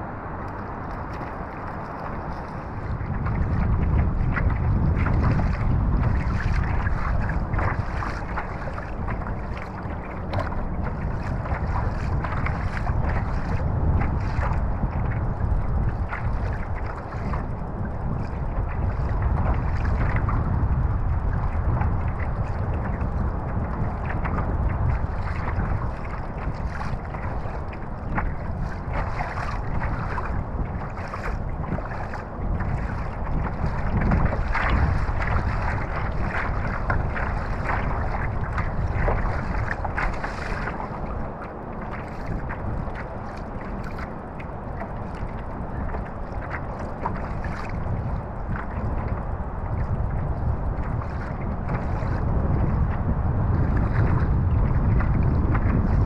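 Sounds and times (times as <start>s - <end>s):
water splashing against kayak hull: 0.0s - 56.0s
wind buffeting microphone: 0.0s - 56.0s.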